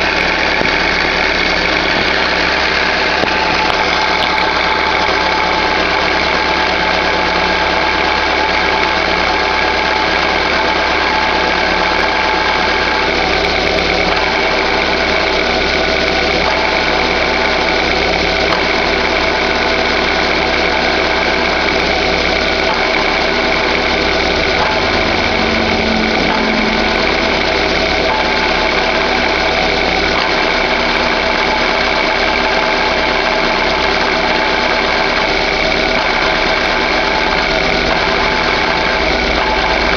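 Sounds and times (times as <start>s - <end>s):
bearing noise from clutch: 0.0s - 39.9s
car engine idling: 0.0s - 39.9s.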